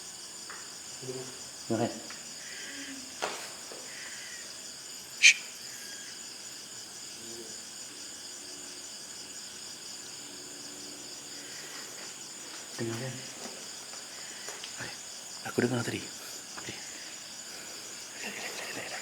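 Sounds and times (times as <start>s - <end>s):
crickets and insects chirring: 0.0s - 19.0s.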